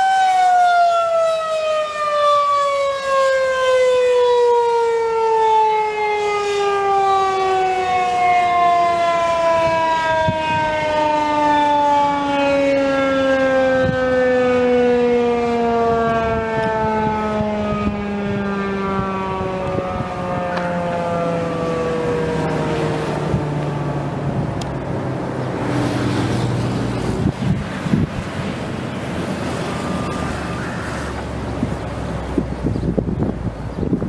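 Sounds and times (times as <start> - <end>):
warning siren winding down: 0.0 - 33.3.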